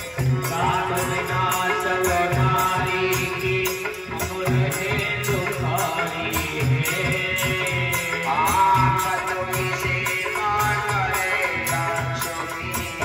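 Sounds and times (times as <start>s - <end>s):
held instrumental tones: 0.0s - 13.0s
man singing: 0.0s - 13.0s.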